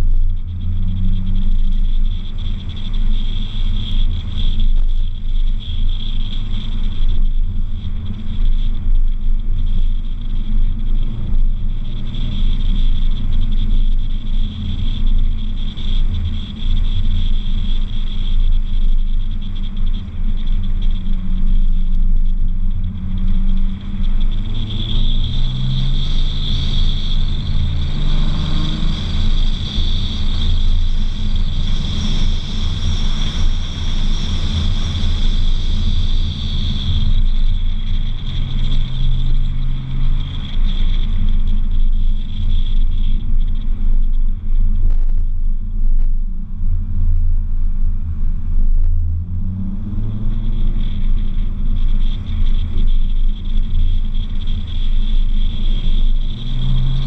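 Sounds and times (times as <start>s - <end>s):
car engine running: 0.0s - 57.0s
constant high whine: 0.0s - 57.0s
road and wind noise: 0.0s - 57.0s.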